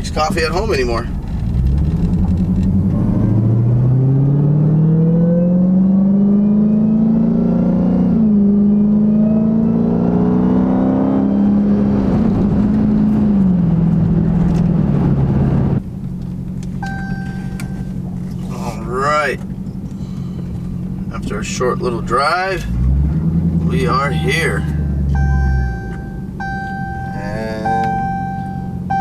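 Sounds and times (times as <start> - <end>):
car engine accelerating: 0.0 - 29.0.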